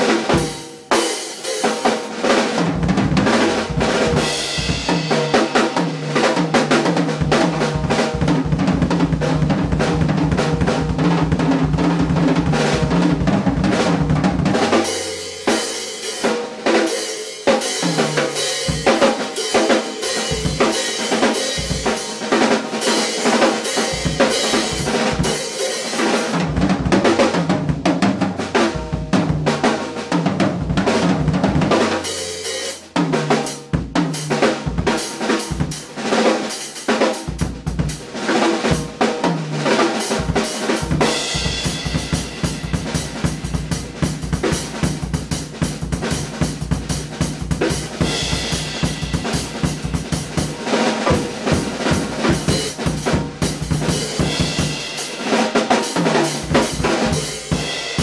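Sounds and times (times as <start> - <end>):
drum kit playing: 0.0 - 58.0.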